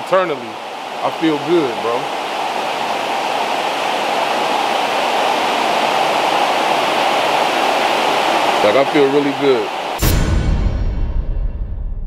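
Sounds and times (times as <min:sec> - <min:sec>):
rushing flowing water: 0:00.0 - 0:10.0.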